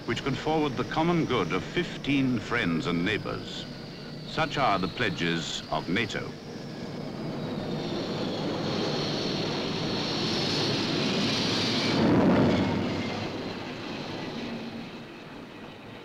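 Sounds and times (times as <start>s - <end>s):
steady noisy roar: 0.0s - 16.0s.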